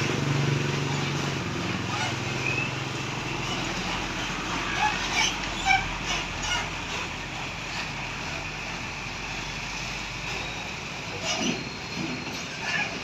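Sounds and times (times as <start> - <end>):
traffic road noise: 0.0 - 13.0.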